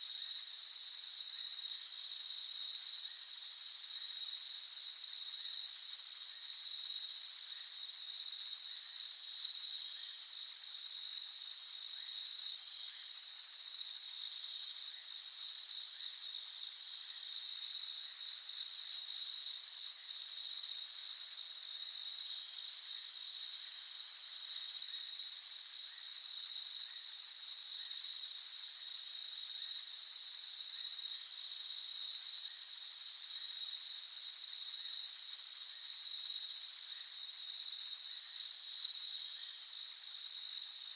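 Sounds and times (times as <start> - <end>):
crickets chirping: 0.0 - 40.9
high continuous insect trill: 0.0 - 40.9.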